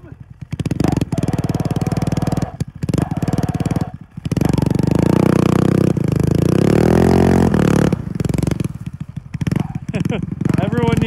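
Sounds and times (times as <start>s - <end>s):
snowmobile engine revving: 0.0s - 11.0s
track spinning in deep snow: 0.0s - 11.0s.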